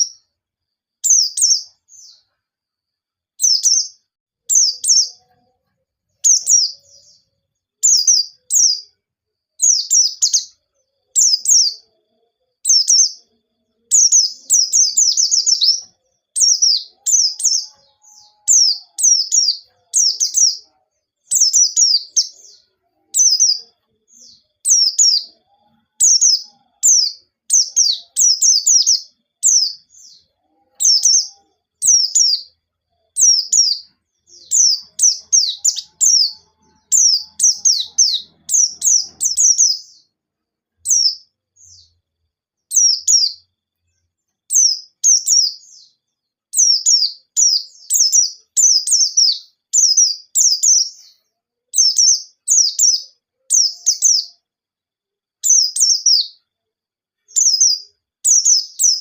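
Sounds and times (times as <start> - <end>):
bird chirping: 0.0 - 54.6, 55.4 - 59.0.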